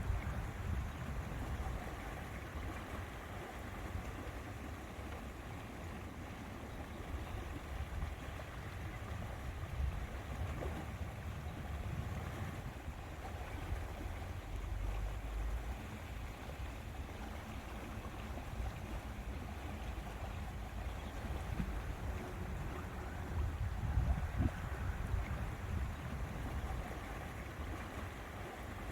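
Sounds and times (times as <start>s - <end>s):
wind buffeting microphone: 0.0s - 3.3s, 7.1s - 14.9s, 16.0s - 28.9s
water lapping at lake: 0.0s - 28.9s.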